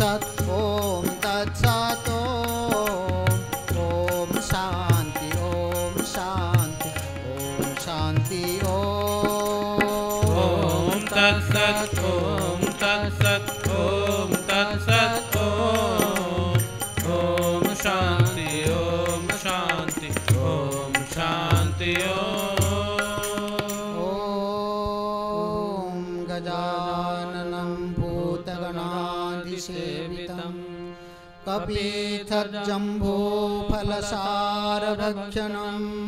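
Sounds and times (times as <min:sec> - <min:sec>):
harmonium drone: 0:00.0 - 0:33.6
man singing devotional chant: 0:00.0 - 0:36.0.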